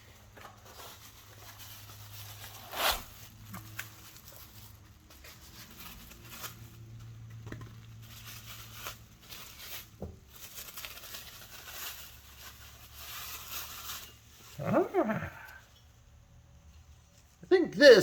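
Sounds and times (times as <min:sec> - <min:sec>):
packaging rustling and crinkling: 0:00.2 - 0:15.1.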